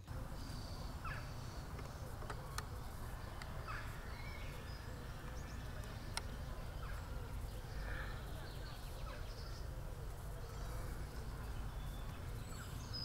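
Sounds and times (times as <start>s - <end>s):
bird calls: 0.0s - 13.0s.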